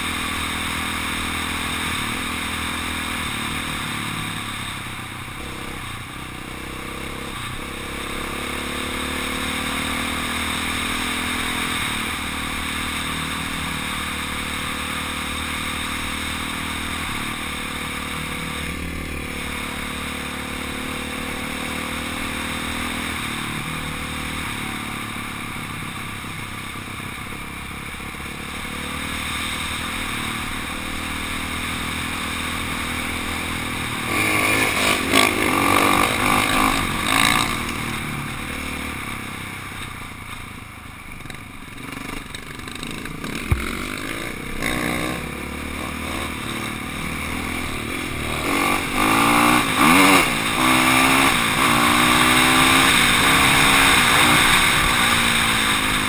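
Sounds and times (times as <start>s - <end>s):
dirt bike engine revving: 0.0s - 39.4s, 41.2s - 56.0s.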